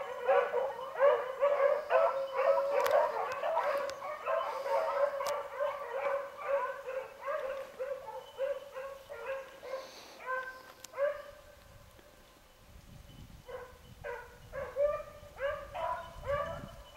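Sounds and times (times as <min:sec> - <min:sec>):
hounds baying: 0:00.0 - 0:11.4, 0:13.5 - 0:16.9.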